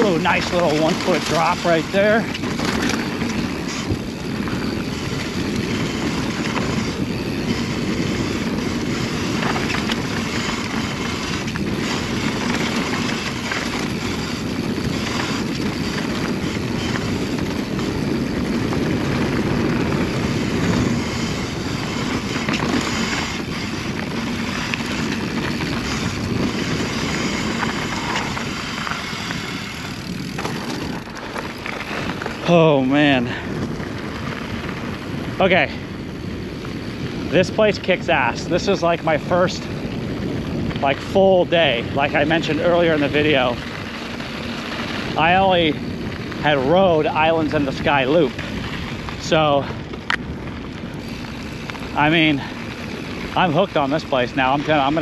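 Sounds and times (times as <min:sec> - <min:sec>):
bike clattering over bumps: 0:00.0 - 0:55.0
tyres rushing on dirt: 0:00.0 - 0:55.0
wind on microphone: 0:00.0 - 0:55.0.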